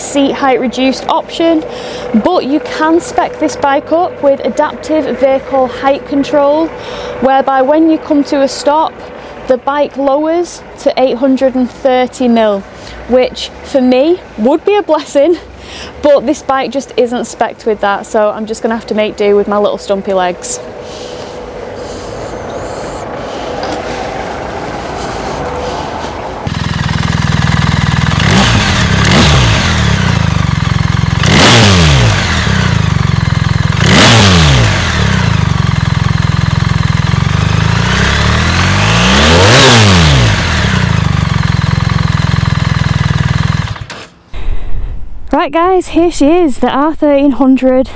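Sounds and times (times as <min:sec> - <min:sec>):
motorcycle engine idling and revving: 0:00.0 - 0:44.3.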